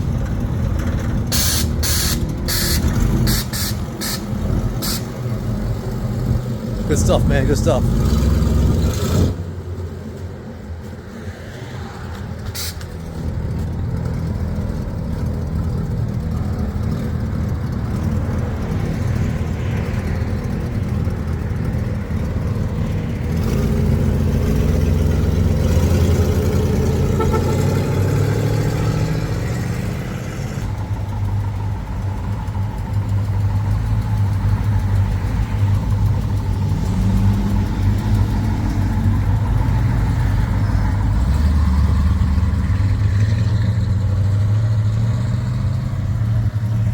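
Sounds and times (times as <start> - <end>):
car engines driving off: 0.0 - 46.9.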